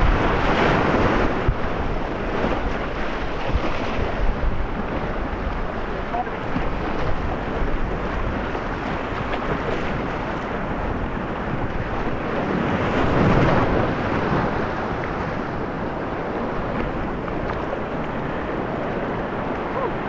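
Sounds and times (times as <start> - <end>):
whitewater rapids rushing: 0.0 - 20.0
wind buffeting microphone: 0.0 - 20.0.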